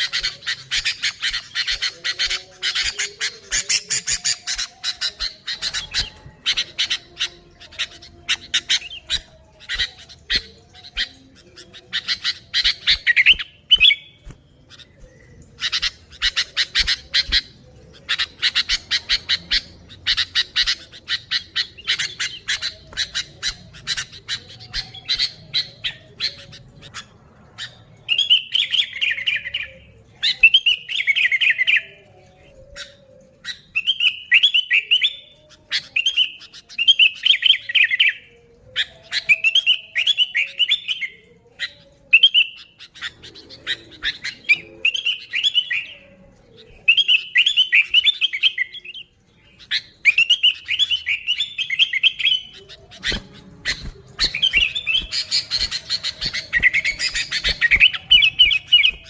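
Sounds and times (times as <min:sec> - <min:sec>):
bulbul singing warbled phrases: 0:00.0 - 0:59.0.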